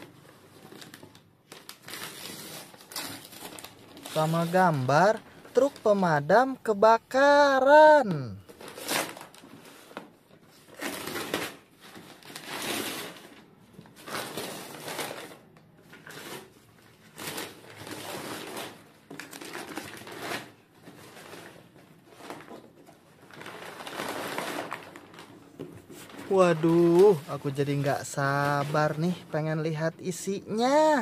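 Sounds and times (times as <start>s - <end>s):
wrapping paper tearing and crumpling: 0.0s - 31.0s.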